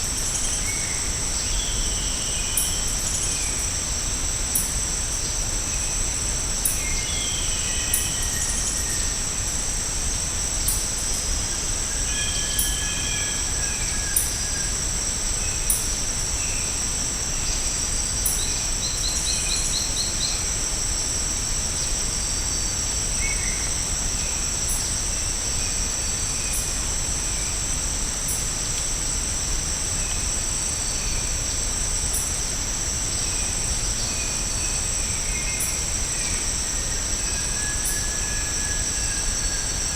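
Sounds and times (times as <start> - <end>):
chorus of tropical insects: 0.0 - 39.9.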